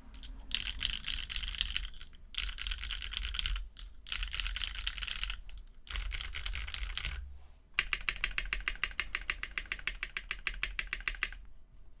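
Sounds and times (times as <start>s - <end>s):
mechanical keyboard typing: 0.0s - 7.2s, 7.8s - 11.5s.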